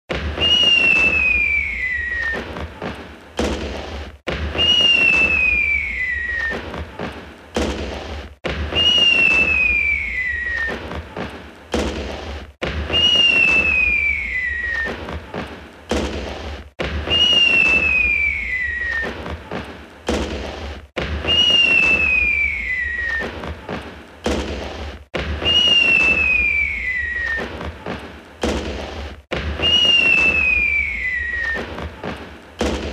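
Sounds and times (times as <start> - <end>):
firework bangs: 0.1 - 32.9
firework crackling: 0.1 - 32.9
whistling firework: 0.1 - 32.9.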